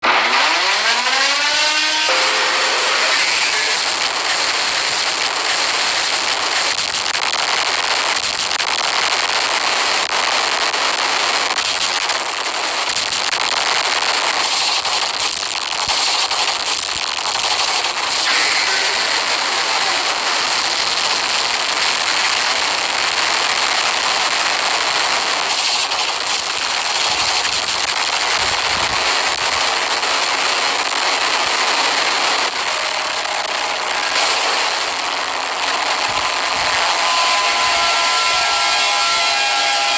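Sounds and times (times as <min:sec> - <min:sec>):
loud crackling hiss: 0:01.6 - 0:39.9.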